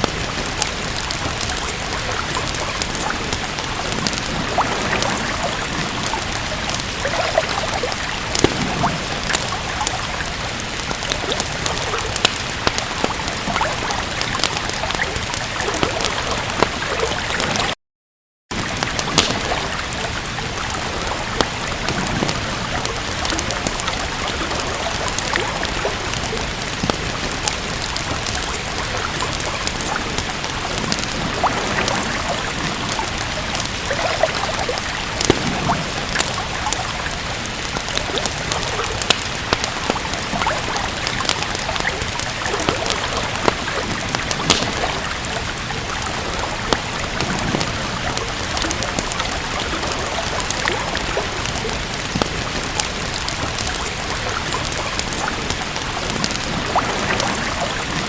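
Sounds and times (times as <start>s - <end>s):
steady rain hissing: 0.0s - 17.8s, 18.5s - 58.0s
wood fire crackling: 0.0s - 17.8s, 18.5s - 58.0s.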